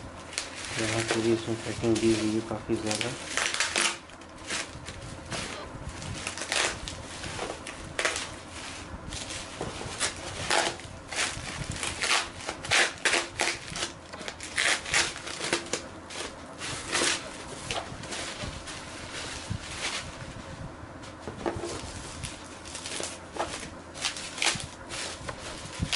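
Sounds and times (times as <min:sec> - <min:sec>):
bubble wrap crinkling: 0:00.1 - 0:20.5, 0:21.1 - 0:25.9.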